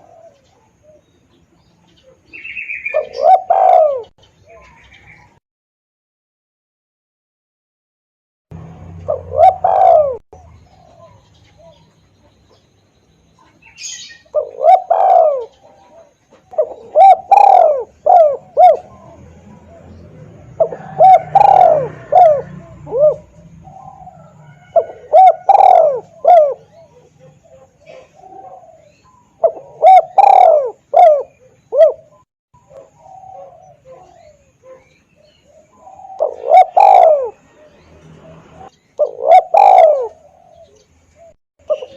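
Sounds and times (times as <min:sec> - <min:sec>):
dove cooing: 0:00.0 - 0:05.4, 0:09.0 - 0:12.6, 0:13.4 - 0:41.9.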